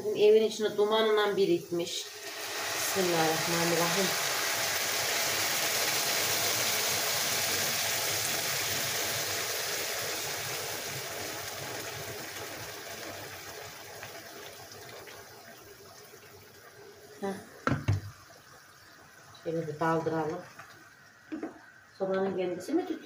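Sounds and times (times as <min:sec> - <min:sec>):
water pouring into a pot: 0:01.9 - 0:21.9.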